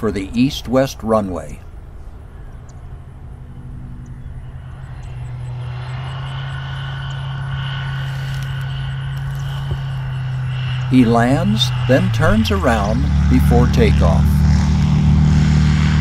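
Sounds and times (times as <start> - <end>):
plane engine and propeller: 0.0 - 16.0.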